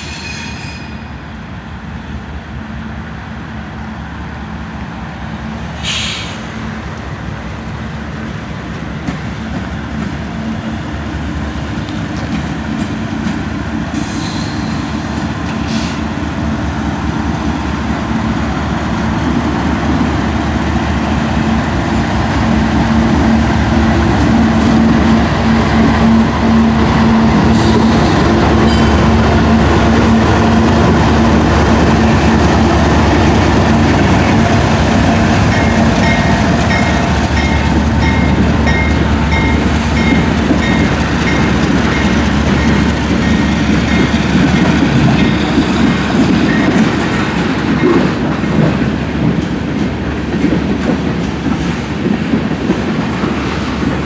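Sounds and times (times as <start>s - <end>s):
diesel locomotive engine hum: 0.0s - 54.0s
train wheels clickety-clack: 5.8s - 16.5s, 17.1s - 54.0s.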